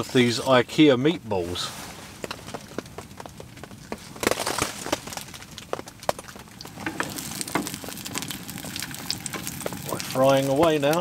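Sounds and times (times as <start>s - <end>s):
meatballs frying in oil: 0.0s - 11.0s
wood fire crackling: 0.0s - 11.0s.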